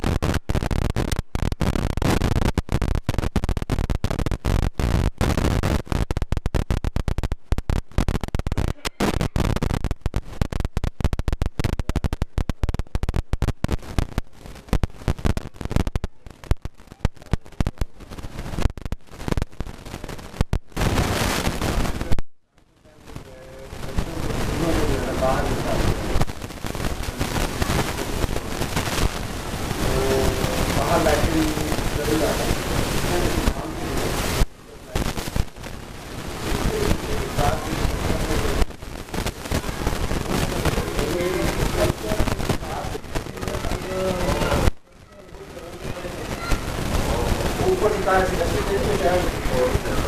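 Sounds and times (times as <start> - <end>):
harsh distorted crackling: 0.0 - 50.0.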